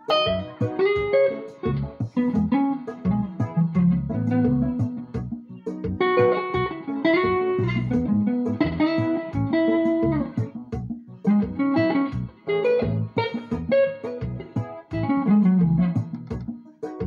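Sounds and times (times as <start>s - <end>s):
guitar solo with bent notes: 0.0s - 16.6s.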